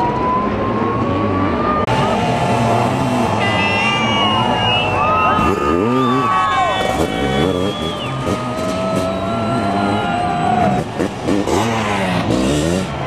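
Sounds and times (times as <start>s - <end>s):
motocross engines revving: 0.4s - 13.0s.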